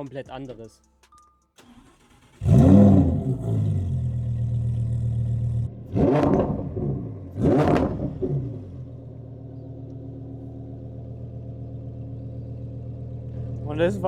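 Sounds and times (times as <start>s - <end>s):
sports car engine revving: 2.2s - 14.0s.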